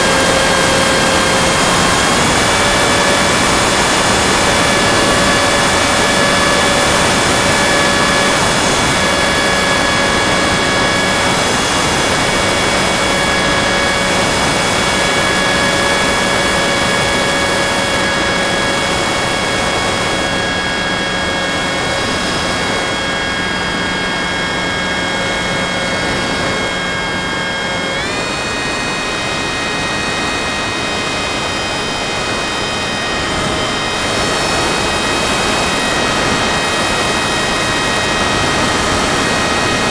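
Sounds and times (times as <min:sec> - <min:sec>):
model aircraft motor droning: 0:00.0 - 0:39.9
wind rushing over microphone: 0:00.0 - 0:39.9.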